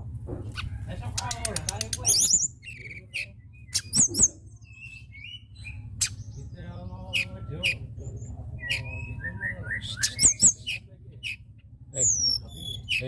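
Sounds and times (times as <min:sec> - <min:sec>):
low hum: 0:00.0 - 0:13.0
songbird calling: 0:00.5 - 0:13.0.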